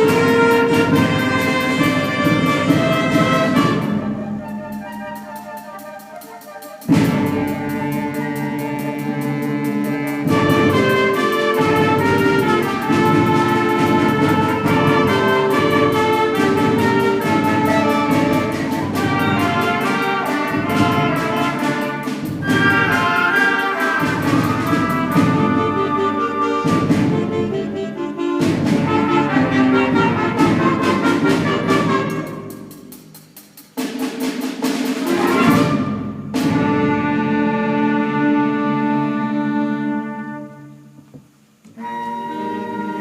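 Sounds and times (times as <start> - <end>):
brass held chords: 0.0 - 32.7, 35.1 - 41.0
concert band playing: 0.0 - 41.0, 41.6 - 43.0.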